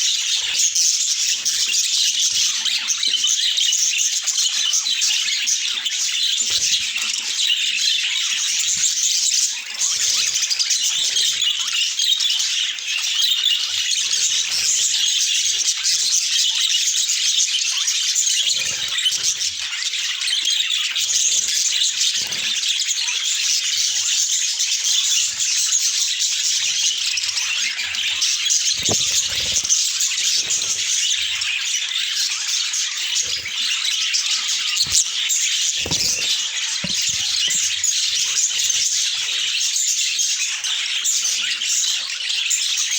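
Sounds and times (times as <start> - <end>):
budgerigars chattering: 0.0 - 42.9.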